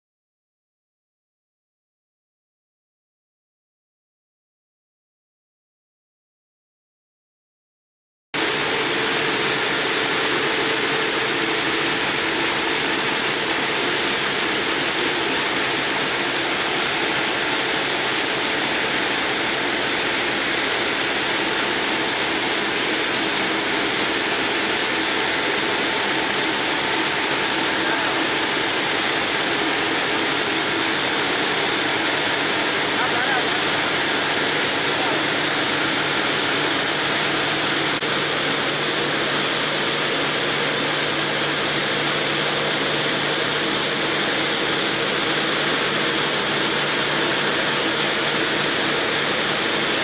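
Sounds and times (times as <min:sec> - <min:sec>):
saw blades grinding stone with water: 0:08.4 - 0:50.0.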